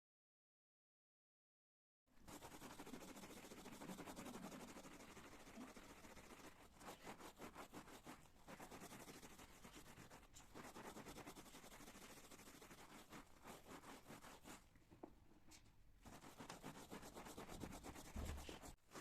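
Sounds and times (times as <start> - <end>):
faint rubbing and scratching: 2.2 - 14.7, 15.4 - 19.0.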